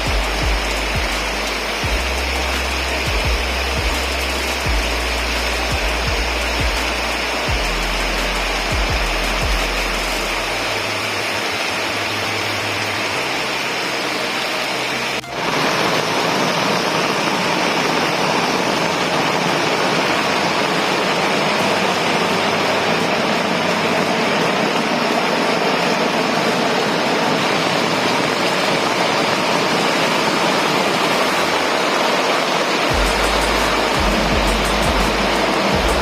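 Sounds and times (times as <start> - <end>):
heavy rain falling: 0.0 - 36.0.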